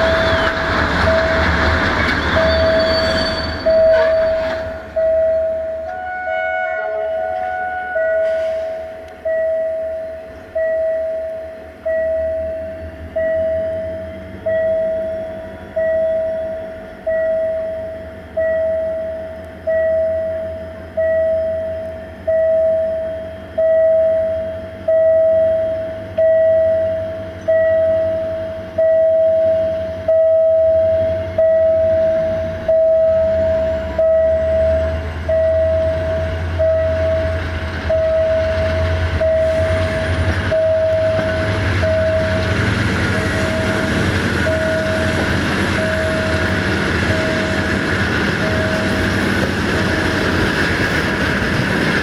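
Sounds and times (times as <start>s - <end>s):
diesel train rumble: 0.0s - 52.0s
level crossing warning bell: 0.9s - 49.9s.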